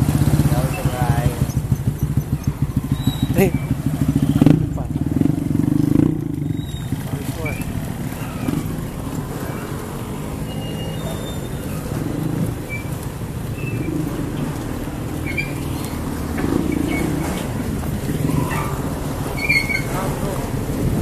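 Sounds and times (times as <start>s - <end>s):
engines idling: 0.0s - 21.0s.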